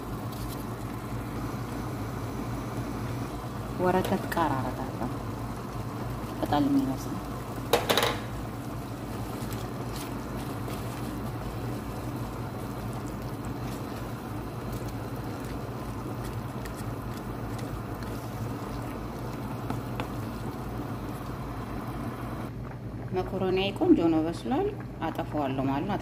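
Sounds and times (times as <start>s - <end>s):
sauce simmering hum and hiss: 0.0s - 26.0s.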